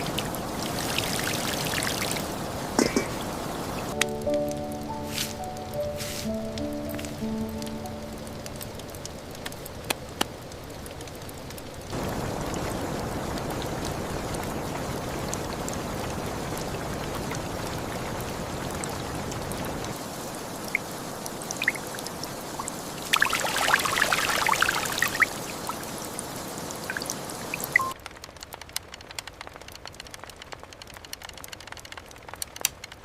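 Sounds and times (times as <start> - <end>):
water splashing and pouring: 0.0 - 28.0
water dripping: 0.0 - 32.9
rain hiss: 0.0 - 33.0.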